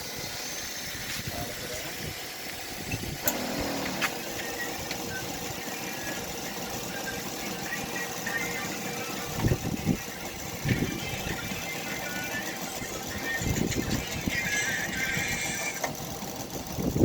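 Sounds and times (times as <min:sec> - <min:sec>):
motor running steadily: 0:00.0 - 0:17.0.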